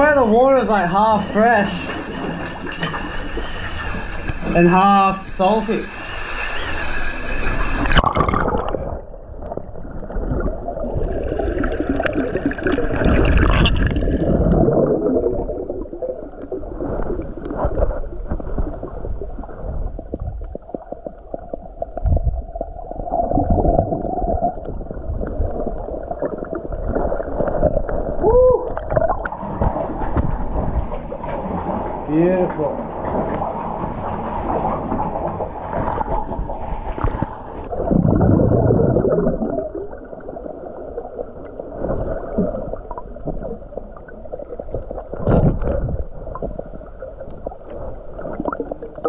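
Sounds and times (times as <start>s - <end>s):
muffled underwater rushing water: 0.0s - 49.0s.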